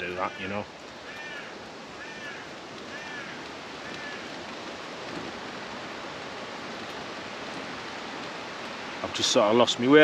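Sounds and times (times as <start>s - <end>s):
steady rushing hiss: 0.0s - 10.0s.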